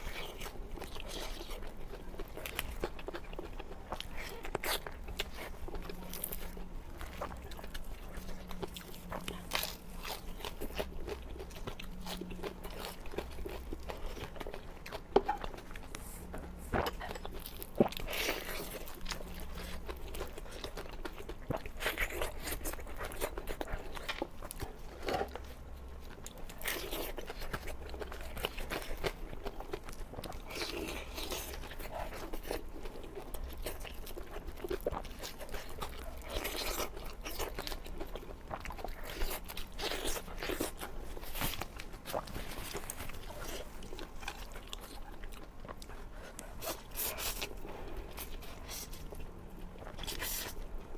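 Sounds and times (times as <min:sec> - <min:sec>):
crunchy biting and chewing: 0:00.0 - 0:50.9.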